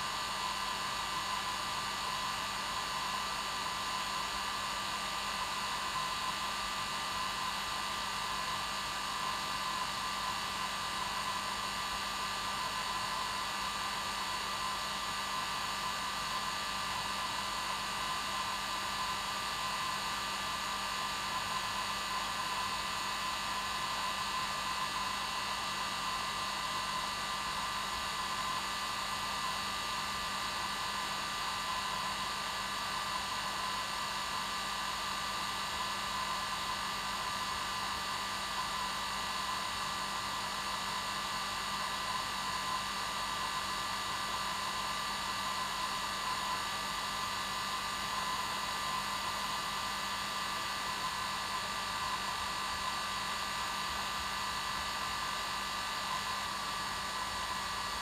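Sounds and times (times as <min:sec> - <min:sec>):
hair dryer whirring: 0:00.0 - 0:58.0.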